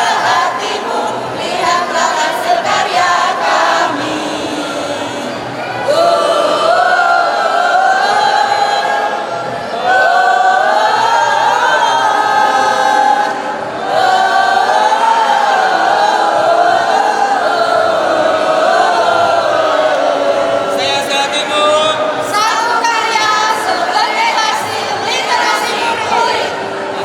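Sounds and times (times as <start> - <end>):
group of voices singing: 0.0 - 27.0.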